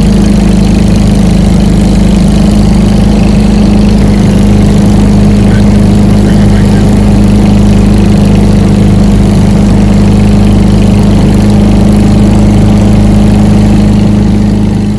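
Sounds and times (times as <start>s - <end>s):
aircraft engine and propeller drone: 0.0s - 14.9s.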